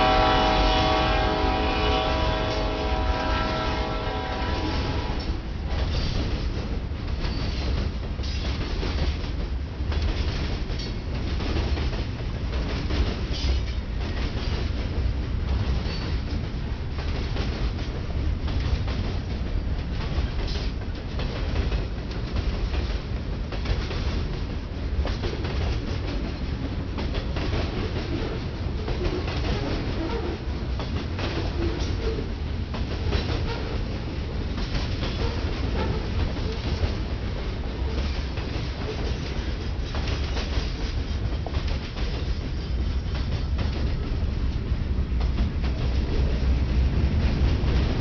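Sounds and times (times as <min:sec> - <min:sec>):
steel wheels rumbling on rail: 0:00.0 - 0:48.0
wheels clicking over rail joints: 0:05.2 - 0:46.4.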